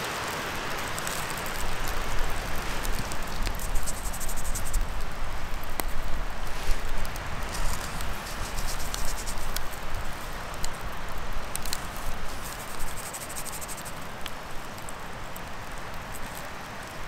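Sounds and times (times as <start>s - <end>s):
campfire embers crackling: 0.0s - 17.0s.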